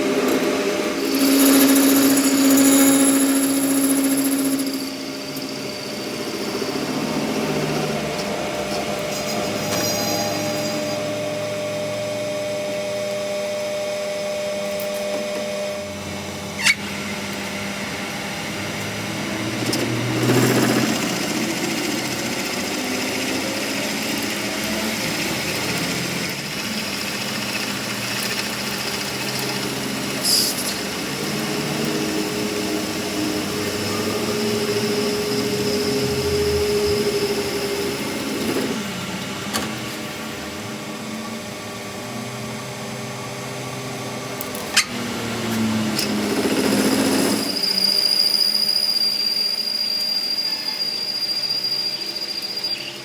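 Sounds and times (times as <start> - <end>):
small machine motor running: 0.0 - 53.0.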